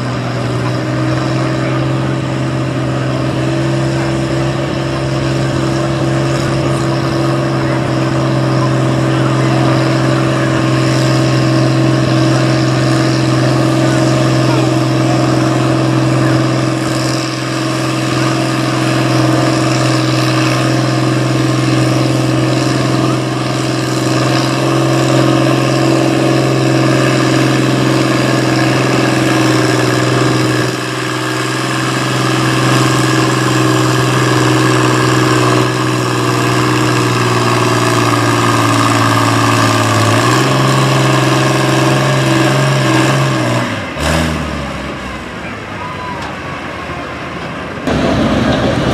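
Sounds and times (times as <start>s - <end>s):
tractor engine at high revs: 0.0s - 48.9s.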